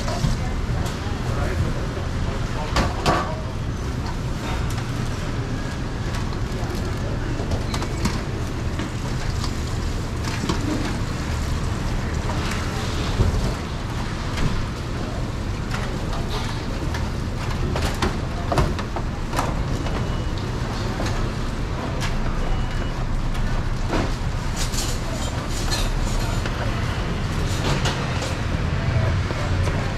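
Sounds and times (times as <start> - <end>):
low background rumble of a stall: 0.0 - 29.9.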